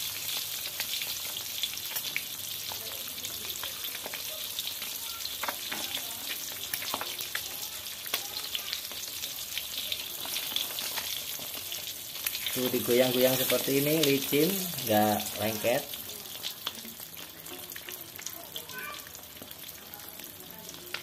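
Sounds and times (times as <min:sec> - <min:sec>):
egg sizzling in hot oil: 0:00.0 - 0:21.0
oil crackles and pops: 0:00.0 - 0:21.0.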